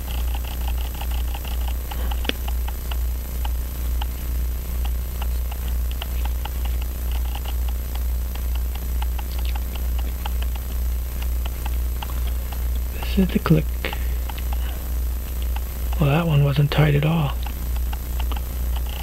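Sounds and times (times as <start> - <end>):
low pulsing hum: 0.0 - 19.0.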